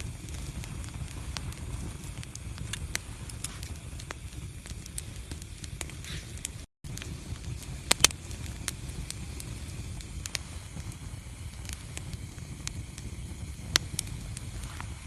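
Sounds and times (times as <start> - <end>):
sharp pops of fire: 0.0 - 15.0
wood fire crackling: 0.0 - 15.0.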